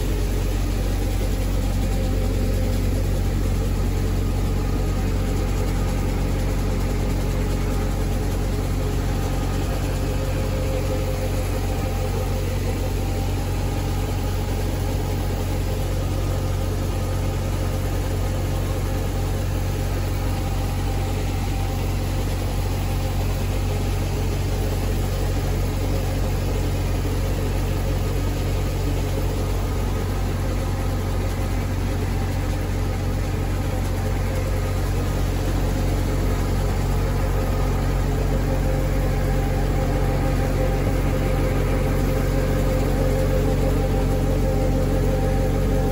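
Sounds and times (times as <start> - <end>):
motor running steadily: 0.0 - 45.9.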